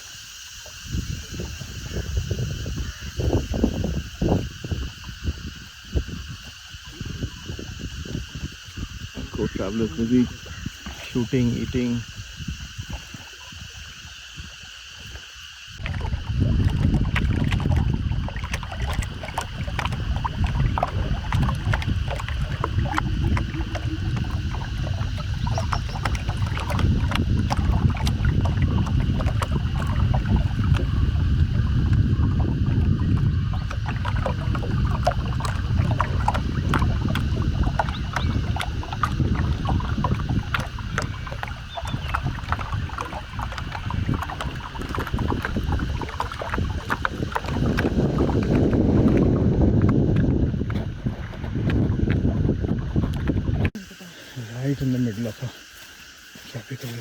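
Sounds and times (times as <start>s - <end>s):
wind rumble on microphone: 0.0s - 53.8s
paddles splashing water: 0.0s - 57.0s.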